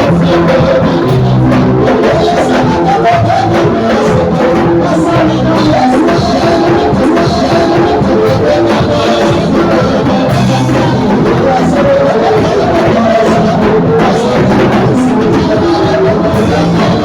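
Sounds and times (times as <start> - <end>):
drum kit: 0.0 - 17.0
guitar playing: 0.0 - 17.0.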